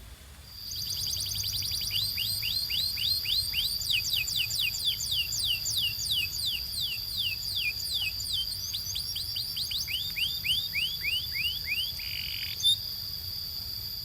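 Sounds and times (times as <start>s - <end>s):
canary singing: 0.7s - 12.8s.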